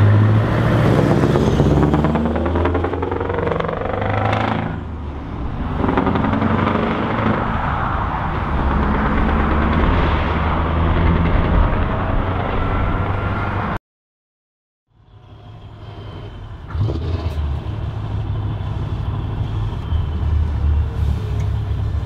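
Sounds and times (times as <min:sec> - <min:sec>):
truck diesel engine rumbling: 0:00.0 - 0:13.8, 0:14.9 - 0:22.0.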